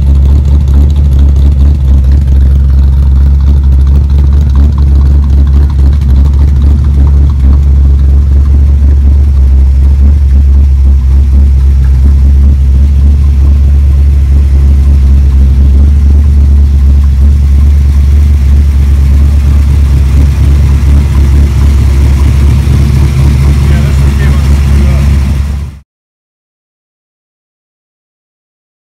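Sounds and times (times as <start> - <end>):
v eight engine idling: 0.0 - 25.8.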